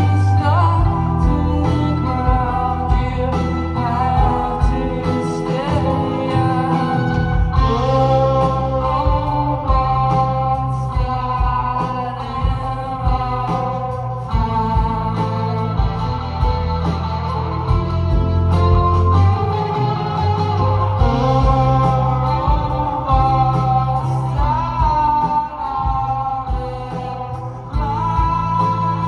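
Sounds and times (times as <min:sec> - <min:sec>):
live band playing: 0:00.0 - 0:29.0
person singing: 0:00.0 - 0:29.0
steady drum beat: 0:00.0 - 0:29.0.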